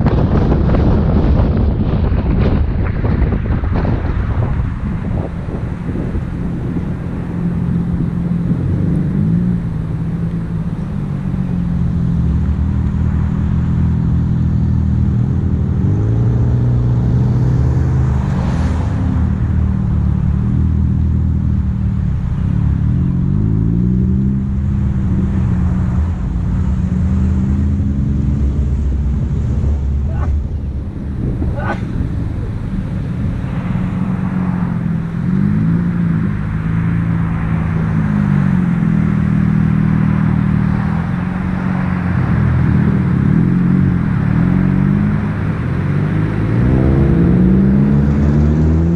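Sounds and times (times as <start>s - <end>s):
car engine revving: 0.0s - 48.9s
road noise: 0.0s - 48.9s.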